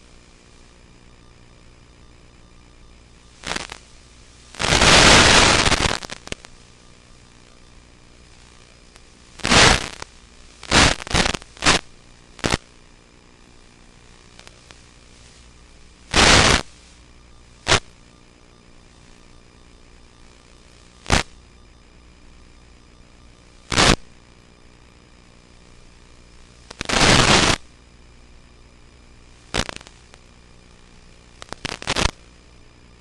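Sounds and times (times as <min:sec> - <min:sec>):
loud hiss-like static bursts: 0:00.0 - 0:02.0, 0:03.0 - 0:21.6, 0:23.3 - 0:32.6
faint steady hum: 0:00.0 - 0:33.0.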